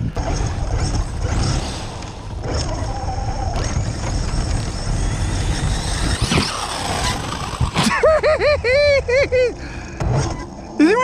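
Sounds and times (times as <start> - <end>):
electric motor whining: 0.0 - 9.6
low rumble: 0.0 - 10.8.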